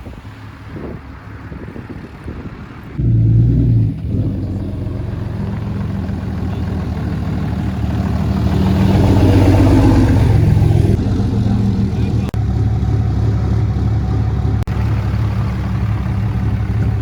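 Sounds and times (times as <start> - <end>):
diesel pickup engine starting: 0.0 - 17.0.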